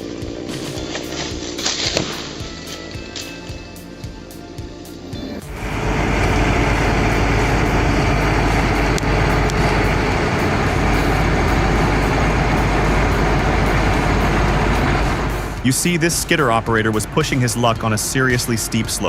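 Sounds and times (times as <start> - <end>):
skidder engine running loudly: 0.0 - 19.0.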